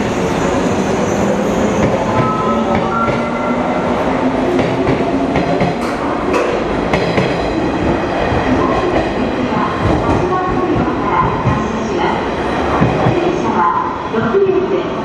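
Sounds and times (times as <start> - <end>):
electric train rumbling on rails: 0.0 - 15.0.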